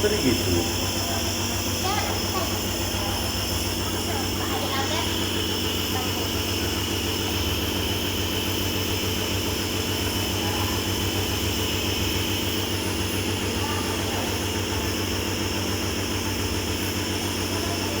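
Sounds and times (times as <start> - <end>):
nebulizer motor hum: 0.0 - 18.0.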